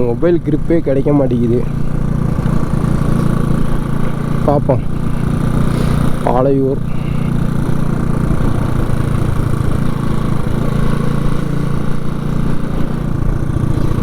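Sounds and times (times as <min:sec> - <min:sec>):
motorcycle engine running: 0:00.0 - 0:14.0
road noise: 0:00.0 - 0:14.0.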